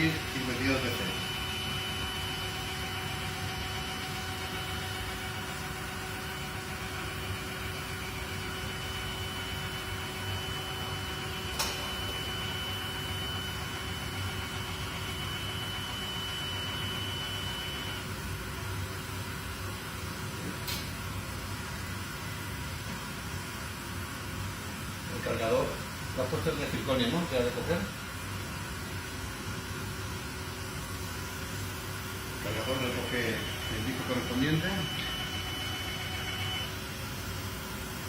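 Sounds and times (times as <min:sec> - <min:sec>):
high machine whine: 0:00.0 - 0:38.0
milling machine humming: 0:00.0 - 0:38.0.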